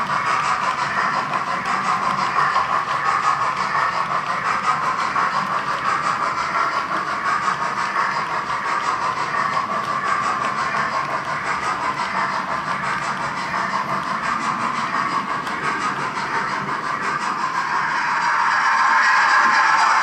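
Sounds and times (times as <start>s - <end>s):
model steam locomotive hissing: 0.0s - 20.0s
model train wheels on track: 0.0s - 20.0s.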